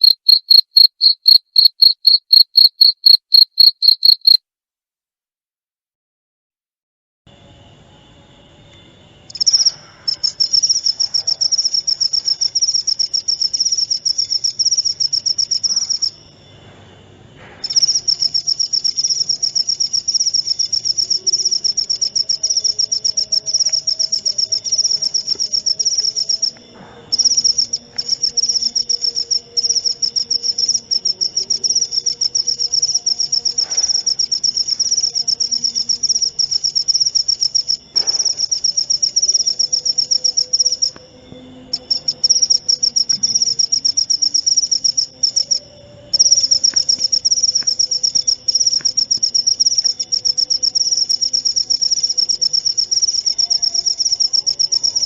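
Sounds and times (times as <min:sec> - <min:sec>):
cricket chirping trill: 0:00.0 - 0:04.4, 0:07.3 - 0:55.0.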